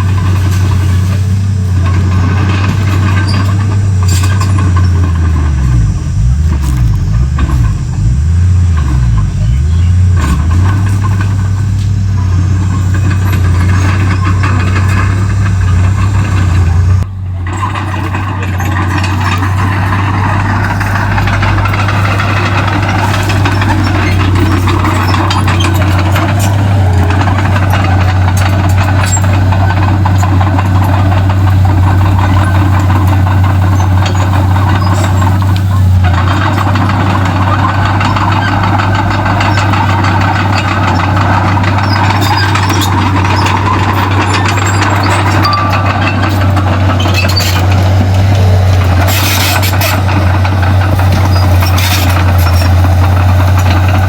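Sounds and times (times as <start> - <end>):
bulldozer diesel engine running hard: 0.0 - 54.0.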